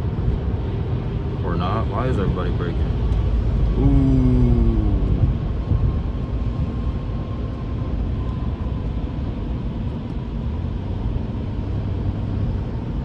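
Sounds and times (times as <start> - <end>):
car interior road and engine rumble: 0.0 - 13.0.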